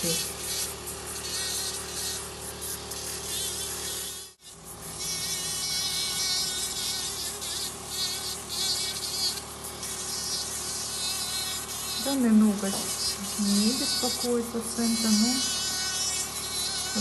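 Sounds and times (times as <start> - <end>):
nail drill whining: 0.0 - 17.0.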